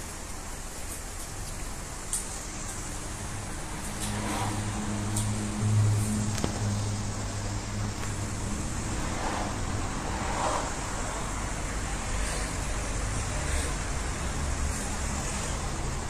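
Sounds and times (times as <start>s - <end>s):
steady low rumble with hiss: 0.0s - 16.0s.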